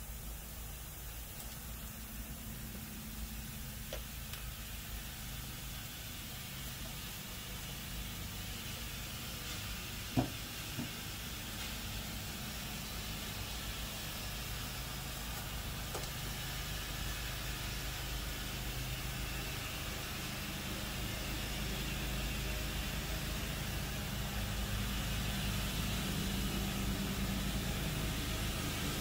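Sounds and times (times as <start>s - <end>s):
air compressor humming and hissing: 0.0s - 29.0s.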